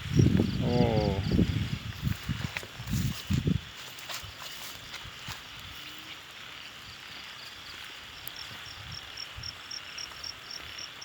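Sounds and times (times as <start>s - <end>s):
high insect buzz: 0.0s - 11.0s
high-pitched insect chirp: 0.0s - 11.0s.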